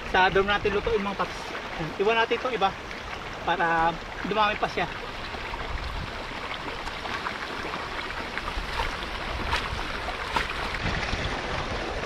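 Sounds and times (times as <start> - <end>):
running water rushing: 0.0 - 12.0
small splashes and ticks: 1.6 - 12.0.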